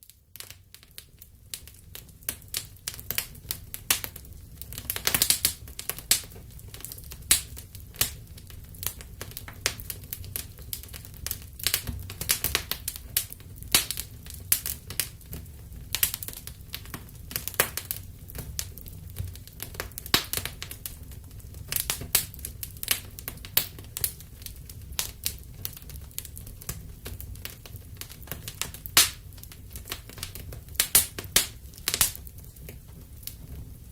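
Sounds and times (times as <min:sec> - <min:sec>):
low rumble of burning: 0:00.0 - 0:33.9
wood fire crackling: 0:00.0 - 0:33.9.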